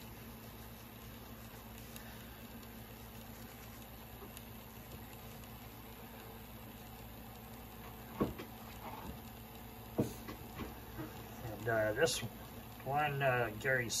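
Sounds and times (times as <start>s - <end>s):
rotating display stand motor hum: 0.0s - 14.0s.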